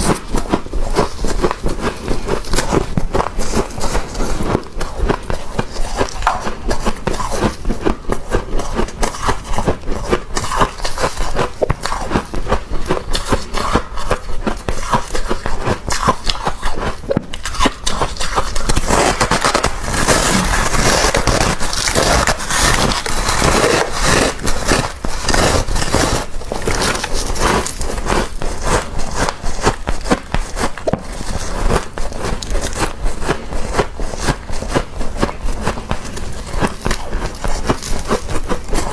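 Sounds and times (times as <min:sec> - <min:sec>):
freezer frost being scraped: 0:00.0 - 0:38.9.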